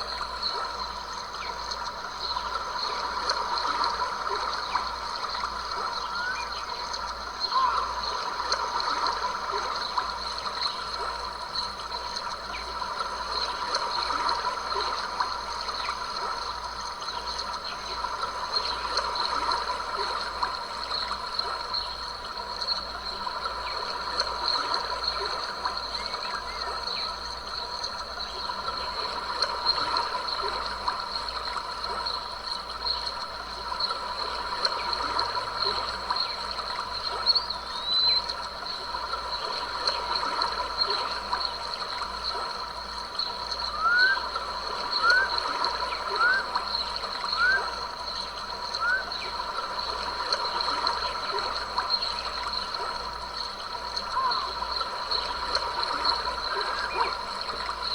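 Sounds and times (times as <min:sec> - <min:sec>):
stream of water trickling: 0:00.0 - 0:57.9.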